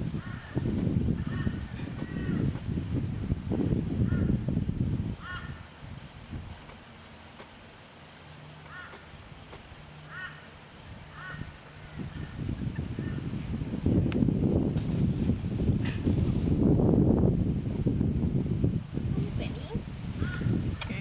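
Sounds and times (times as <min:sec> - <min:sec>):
low rumbling noise: 0:00.0 - 0:06.7, 0:09.1 - 0:21.0.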